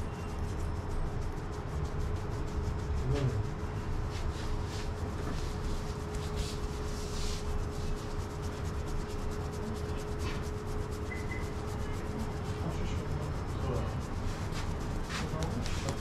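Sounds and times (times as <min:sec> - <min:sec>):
fingers rubbing hair on scalp: 0:00.0 - 0:16.0
steady hum: 0:00.0 - 0:16.0.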